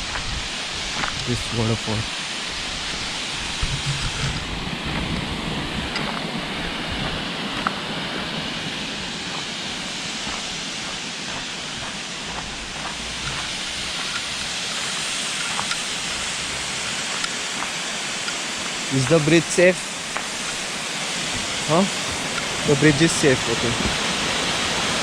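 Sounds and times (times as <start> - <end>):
waterfall roaring: 0.0 - 25.0.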